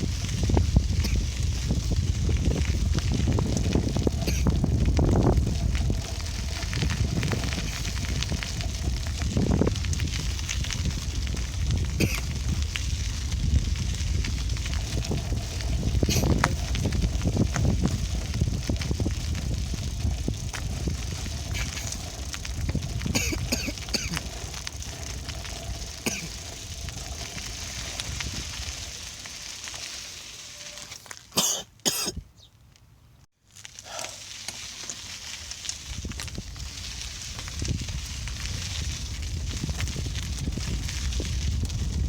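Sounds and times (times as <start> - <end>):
bicycle rolling over rough surface: 0.0 - 31.6, 32.6 - 42.0.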